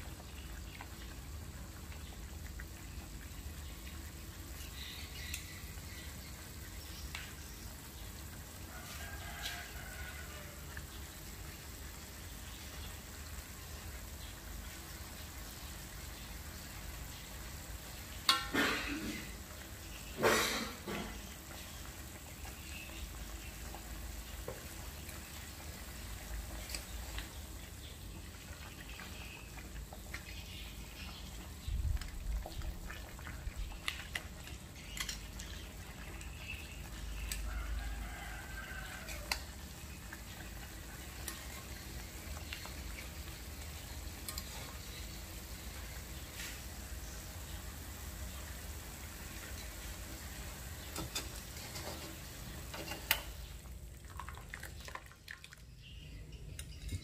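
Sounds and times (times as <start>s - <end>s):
water boiling in a wok: 0.0s - 57.0s.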